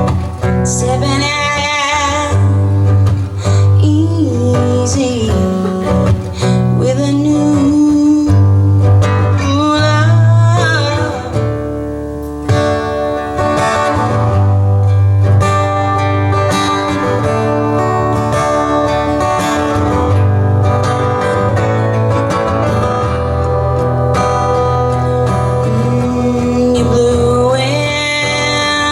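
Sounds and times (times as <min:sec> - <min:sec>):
lead guitar bending notes: 0:00.0 - 0:28.9
live band with acoustic guitars: 0:00.0 - 0:28.9.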